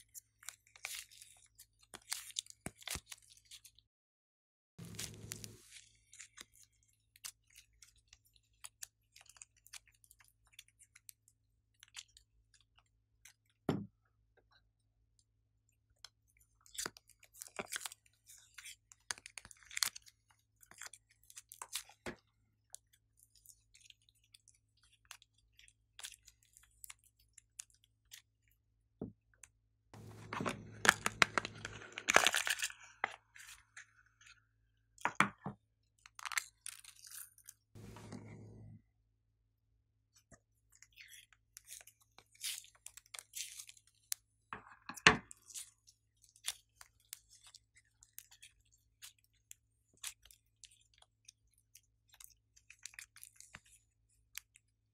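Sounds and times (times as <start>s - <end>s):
hands squishing clay and slime: 0.0s - 3.8s, 4.8s - 15.1s, 15.8s - 28.6s, 30.0s - 38.1s, 40.2s - 54.9s.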